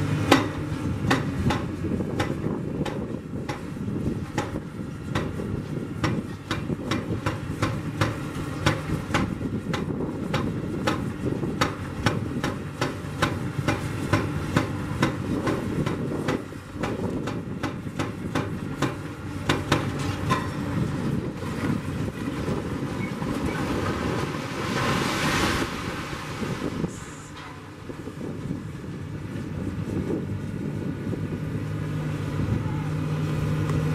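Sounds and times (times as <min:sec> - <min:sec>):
diesel engines rumbling: 0:00.0 - 0:33.9.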